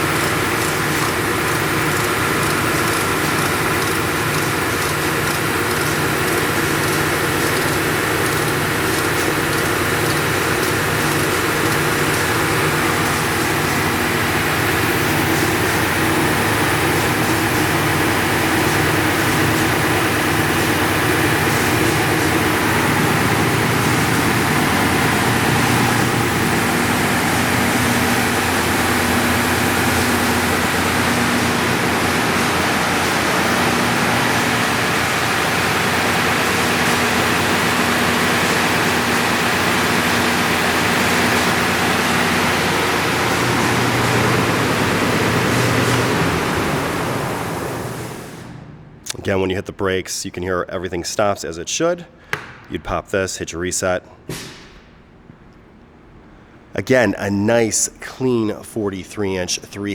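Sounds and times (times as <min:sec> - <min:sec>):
belt sander droning: 0:00.0 - 0:49.2.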